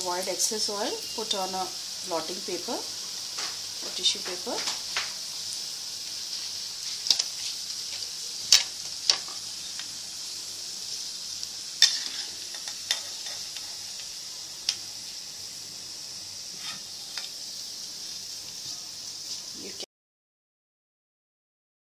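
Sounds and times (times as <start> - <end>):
food sizzling in hot oil: 0.0 - 19.9.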